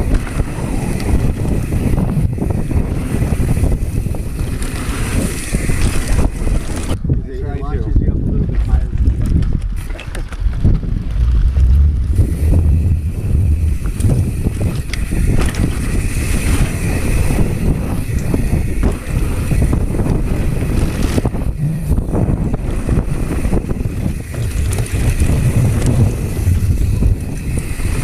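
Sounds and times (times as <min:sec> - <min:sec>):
bike knocks and rattles: 0:00.0 - 0:07.2, 0:08.3 - 0:28.0
tyres on loose dirt: 0:00.0 - 0:07.2, 0:08.2 - 0:28.0
wind on microphone: 0:00.0 - 0:28.0.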